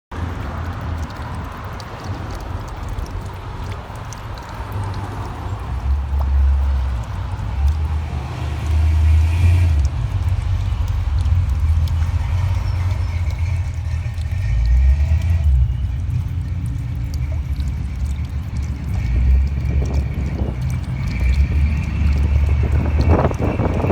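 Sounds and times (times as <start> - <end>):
rainwater rushing through pipe: 0.1 - 23.9.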